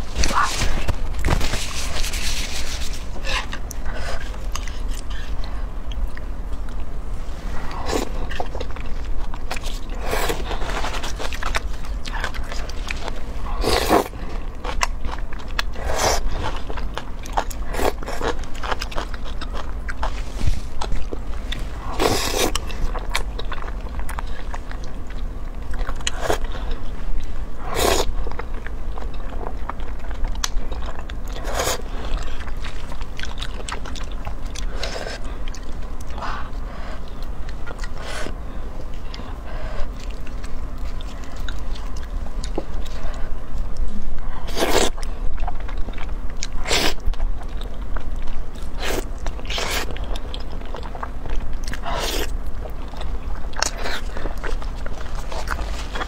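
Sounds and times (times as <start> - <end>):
chewing and biting: 0.0 - 56.0.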